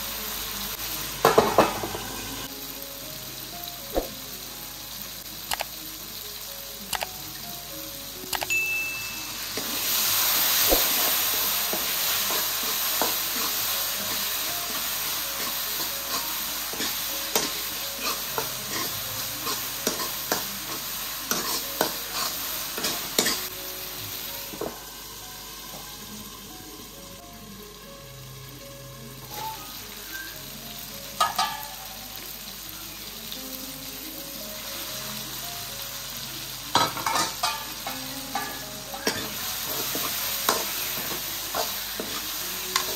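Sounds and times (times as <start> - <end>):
masala sizzling in a pan: 0.0 - 42.9.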